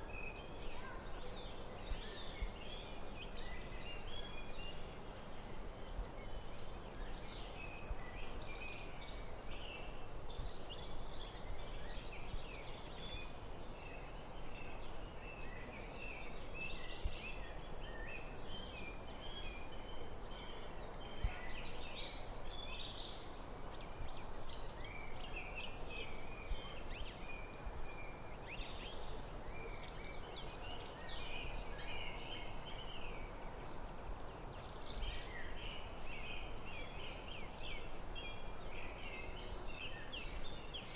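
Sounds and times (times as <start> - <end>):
low background noise: 0.0 - 40.9.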